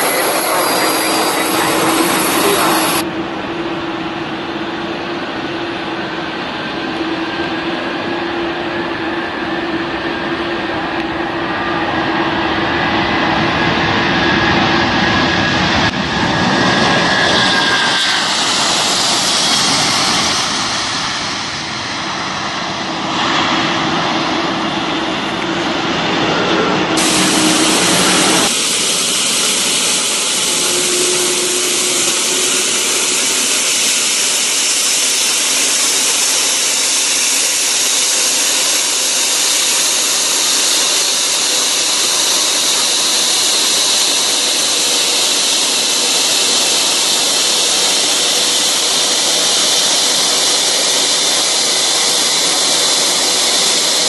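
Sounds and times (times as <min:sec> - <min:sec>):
jet engines at takeoff: 0:00.0 - 0:54.0
jet engines hissing at idle: 0:00.0 - 0:54.0.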